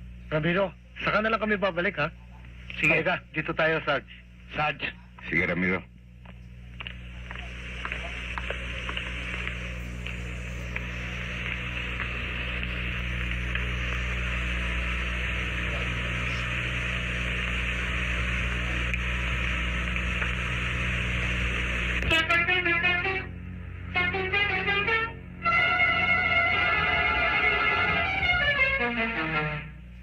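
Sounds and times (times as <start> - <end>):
film soundtrack hiss: 0.0 - 30.0
low electrical hum: 0.0 - 30.0.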